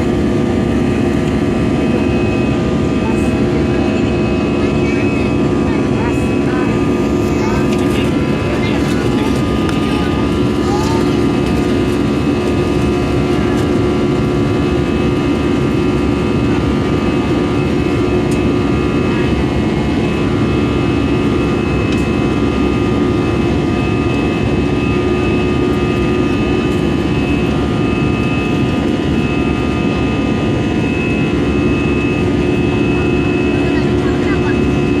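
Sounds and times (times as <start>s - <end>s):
jet engine cabin rush: 0.0s - 35.0s
steady whining tones: 0.0s - 35.0s.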